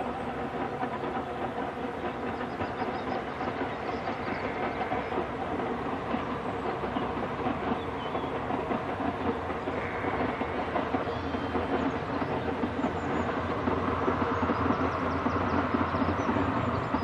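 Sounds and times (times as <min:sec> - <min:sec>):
coach wheels clattering on track: 0:00.0 - 0:17.0
steam locomotive working: 0:00.0 - 0:17.0.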